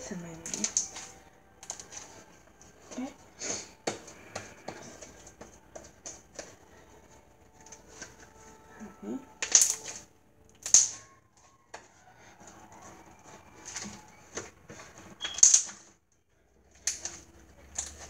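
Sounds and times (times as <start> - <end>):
slime squelching: 0.0 - 18.0.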